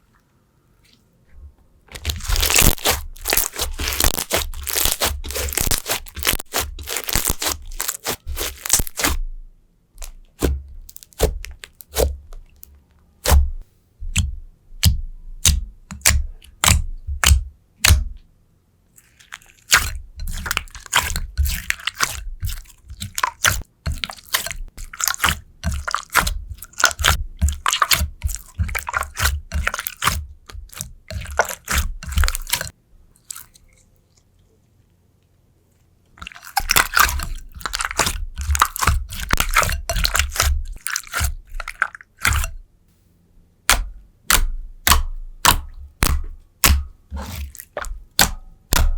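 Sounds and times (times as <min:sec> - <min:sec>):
slime squishing with pops and crackles: 0:01.9 - 0:09.4, 0:10.0 - 0:18.2, 0:19.0 - 0:33.9, 0:36.1 - 0:42.6, 0:43.6 - 0:48.9.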